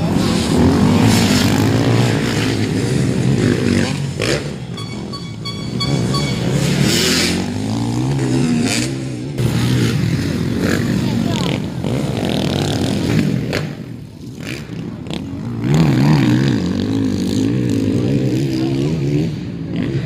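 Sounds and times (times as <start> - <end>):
motocross bikes revving past: 0.0 - 20.0.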